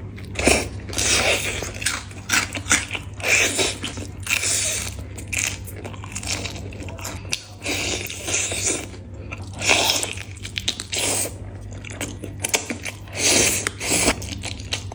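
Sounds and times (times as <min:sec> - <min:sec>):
low steady hum: 0:00.0 - 0:14.9
crunchy bites and chewing: 0:00.1 - 0:14.9.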